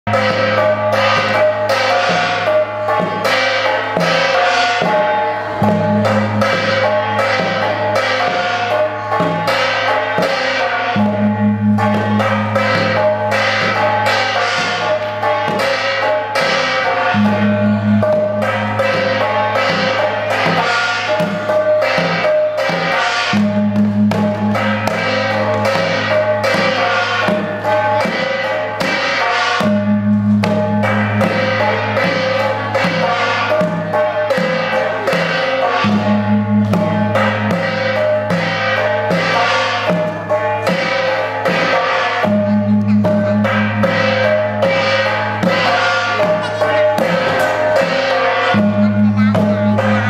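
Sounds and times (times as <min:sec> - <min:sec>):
beaten drum: 0:00.1 - 0:50.0
gongs struck in rhythm: 0:00.1 - 0:50.0.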